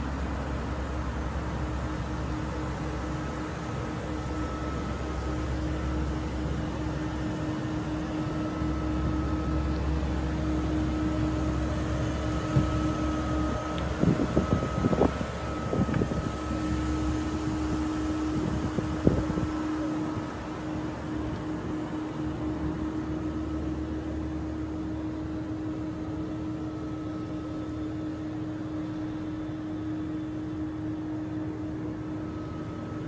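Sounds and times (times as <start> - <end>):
car engine idling: 0.0 - 27.2.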